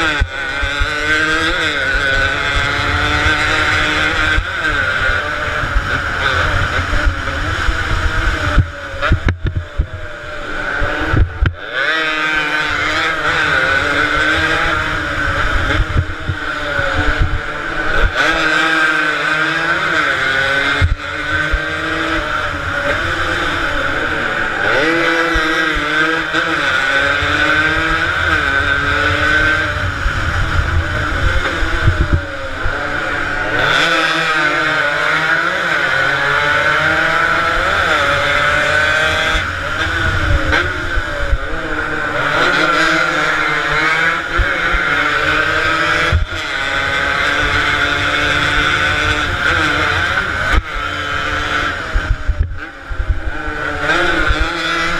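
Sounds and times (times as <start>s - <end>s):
motorcycle engines racing past: 0.0s - 54.9s.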